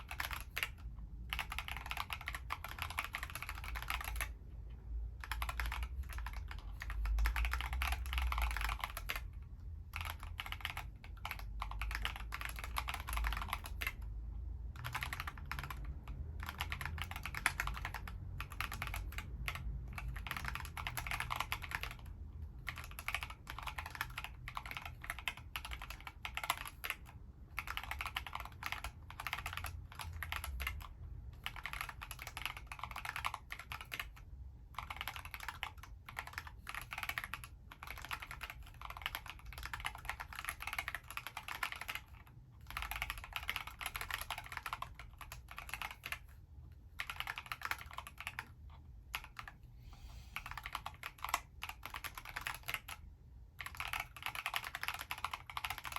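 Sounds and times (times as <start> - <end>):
mechanical keyboard typing: 0.0 - 49.6, 50.4 - 55.9.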